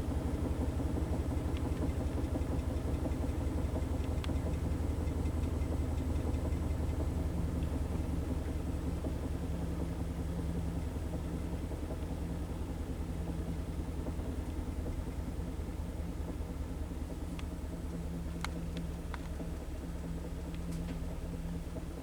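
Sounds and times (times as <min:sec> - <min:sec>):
washing machine spinning: 0:00.2 - 0:22.0.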